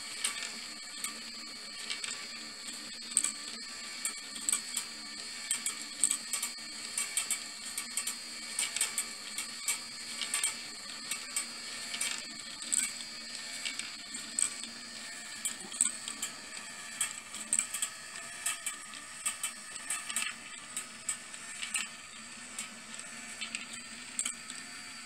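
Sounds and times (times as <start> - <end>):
small electric motor whirring: 0.0 - 25.0.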